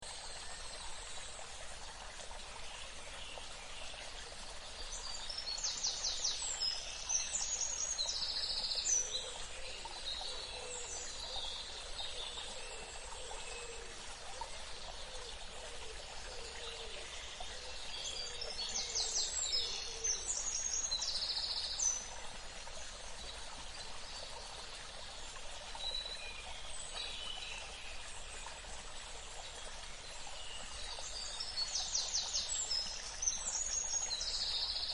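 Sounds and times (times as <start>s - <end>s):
running stream water: 0.0s - 34.9s
birds singing and calling: 4.8s - 34.9s.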